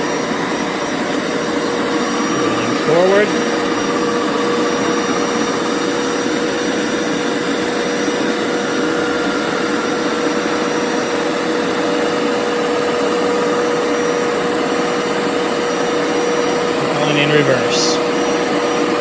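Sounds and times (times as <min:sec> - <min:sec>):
carpet cleaner motor whine: 0:00.0 - 0:19.0.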